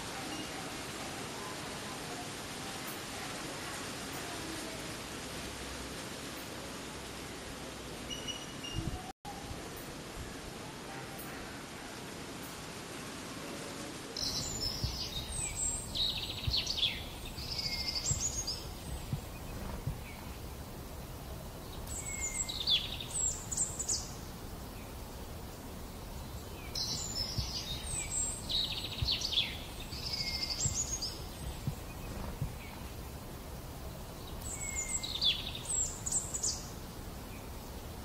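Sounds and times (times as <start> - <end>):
low outdoor background noise: 0.0 - 38.0
songbird singing: 0.0 - 38.0.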